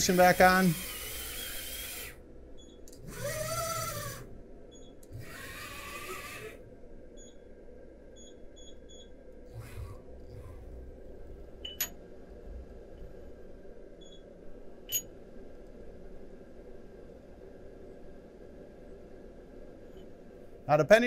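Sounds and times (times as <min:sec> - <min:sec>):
mill drive hiss and whine: 0:00.0 - 0:21.0.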